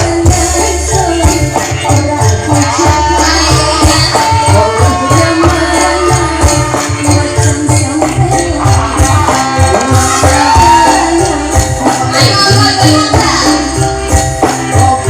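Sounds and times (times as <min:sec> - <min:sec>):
fast drum beat: 0:00.0 - 0:15.0
jingling percussion: 0:00.0 - 0:15.0
loud band music: 0:00.0 - 0:15.0.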